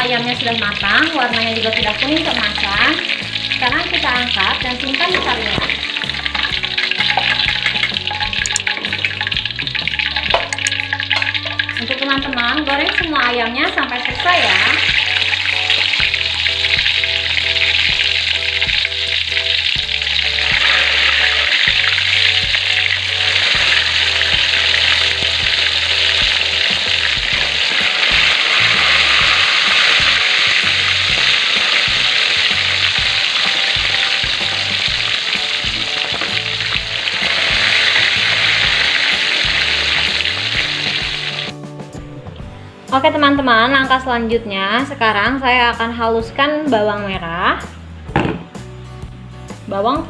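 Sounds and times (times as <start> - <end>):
chicken deep-frying in oil: 0.0 - 41.5.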